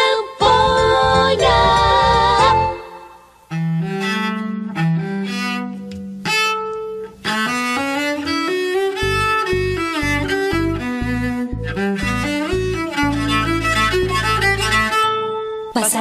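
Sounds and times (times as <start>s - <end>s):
bowed cello melody: 0.4s - 15.8s.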